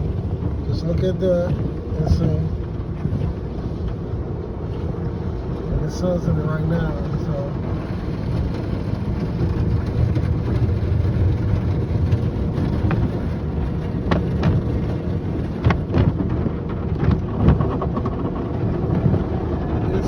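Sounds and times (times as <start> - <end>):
car wash equipment rumble: 0.0 - 20.0.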